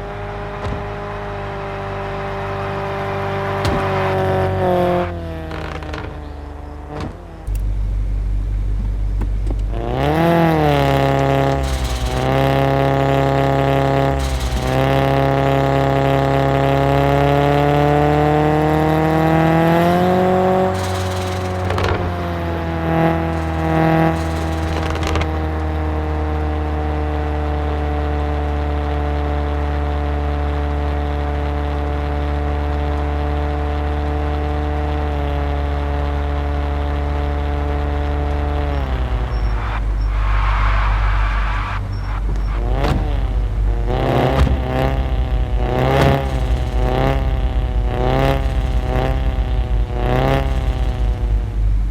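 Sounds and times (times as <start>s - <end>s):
car exhaust revving and idling: 0.0s - 51.9s.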